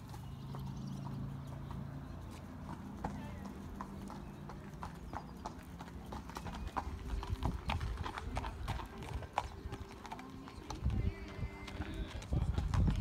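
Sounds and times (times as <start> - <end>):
hoofbeats trotting on sand: 0.0 - 13.0.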